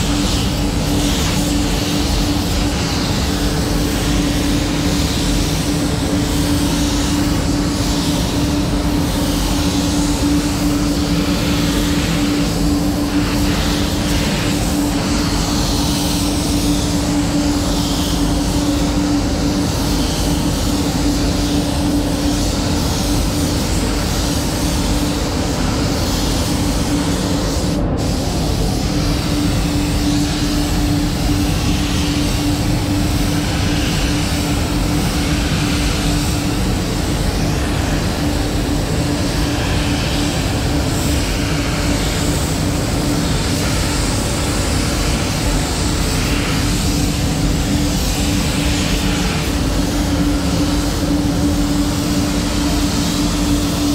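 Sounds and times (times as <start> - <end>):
paint spray gun hissing: 0.0 - 53.9
ventilation hum: 0.0 - 53.9.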